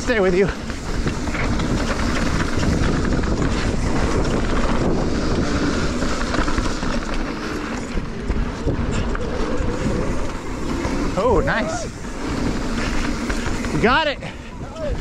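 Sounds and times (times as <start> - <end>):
bike rattling over bumps: 0.0 - 15.0
bike tyres rumbling on dirt: 0.0 - 15.0
wind buffeting microphone: 0.0 - 15.0.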